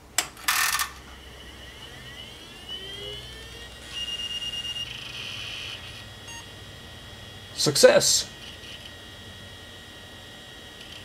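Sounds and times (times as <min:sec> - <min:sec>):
hard drive spinning up whine: 0:00.5 - 0:11.0.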